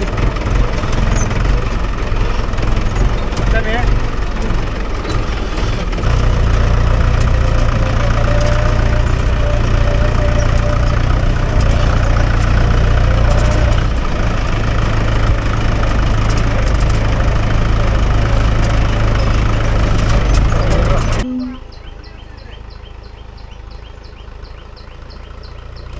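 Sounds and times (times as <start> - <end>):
tractor diesel engine running: 0.0 - 25.9.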